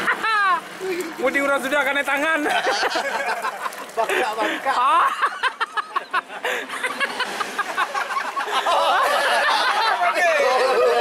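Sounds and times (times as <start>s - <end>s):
people laughing: 0.0s - 1.2s, 2.3s - 11.0s.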